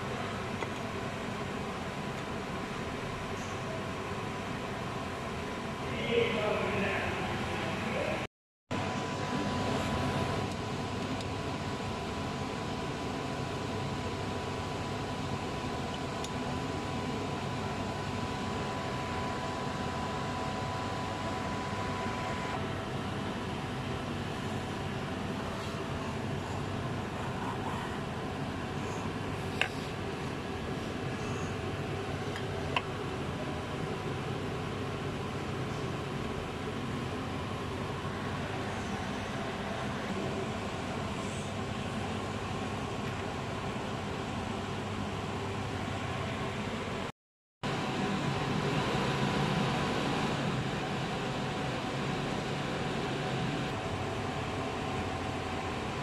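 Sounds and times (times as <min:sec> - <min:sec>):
machine hum and hiss: 0:00.0 - 0:56.0.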